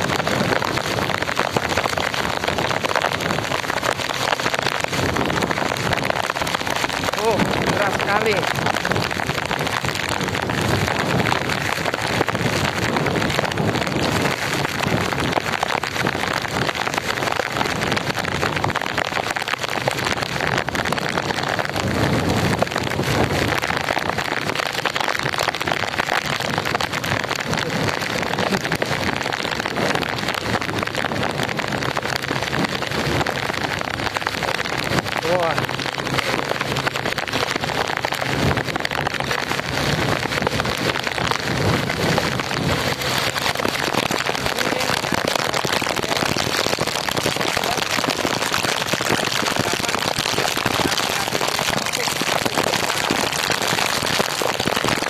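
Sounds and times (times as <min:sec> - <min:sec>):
heavy rain on road: 0:00.0 - 0:55.0
traffic driving on wet road: 0:00.0 - 0:55.0.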